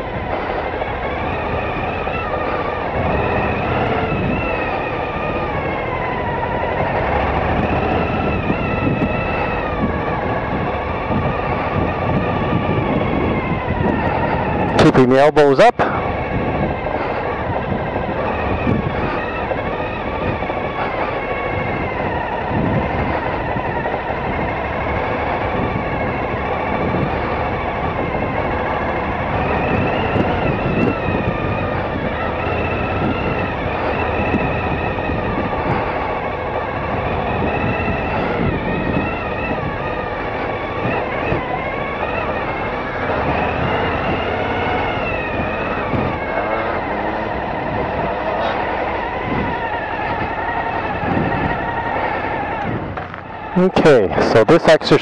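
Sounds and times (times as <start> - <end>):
motorcycle engine running: 0.0 - 15.3, 15.9 - 54.3.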